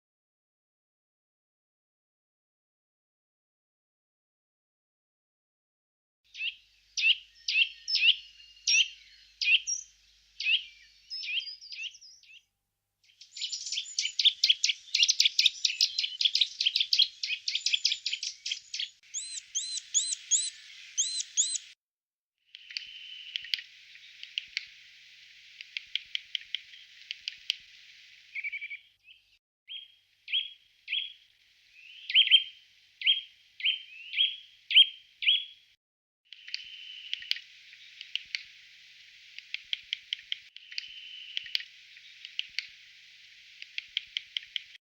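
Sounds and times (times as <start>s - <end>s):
songbirds chirping: 6.3s - 21.8s, 22.5s - 35.7s, 36.3s - 44.8s.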